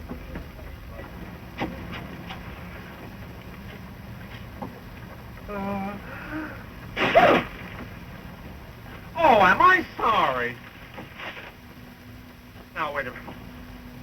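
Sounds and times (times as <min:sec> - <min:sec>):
film track hiss and rumble: 0:00.0 - 0:14.0.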